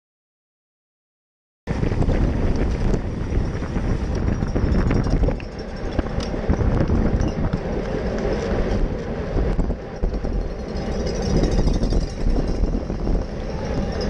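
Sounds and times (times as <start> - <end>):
rough road rumble: 1.7 - 14.0
wind buffeting microphone: 1.7 - 14.0.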